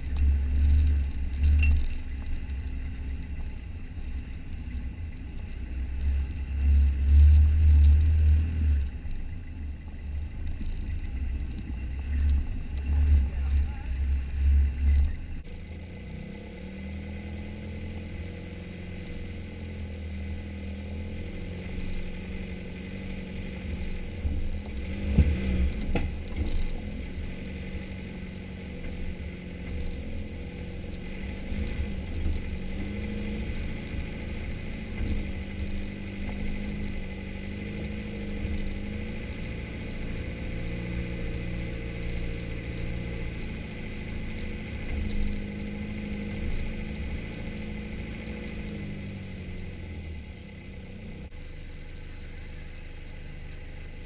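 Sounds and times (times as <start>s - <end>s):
engine running at low revs: 0.0s - 54.0s.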